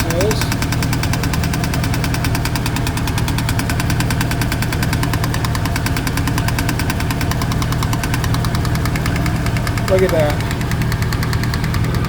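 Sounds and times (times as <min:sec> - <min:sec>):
fast metallic knocking: 0:00.0 - 0:12.0
truck engine running: 0:00.0 - 0:12.0.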